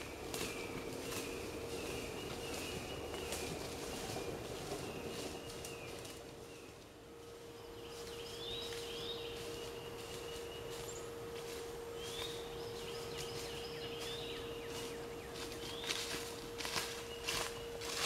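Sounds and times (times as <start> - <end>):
footsteps in dry leaves: 0.0 - 18.0
songbirds chirping: 0.0 - 18.0
steady hum: 0.0 - 18.0.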